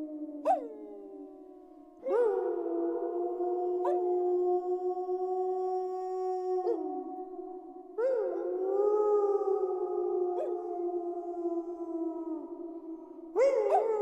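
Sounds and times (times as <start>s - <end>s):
wolves howling in chorus: 0.0s - 1.4s, 2.0s - 14.0s.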